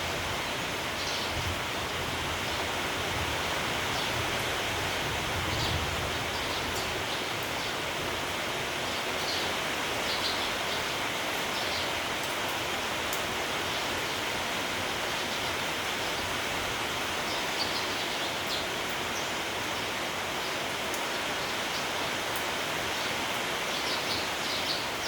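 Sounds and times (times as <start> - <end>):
steady rain with wind: 0.0 - 25.0.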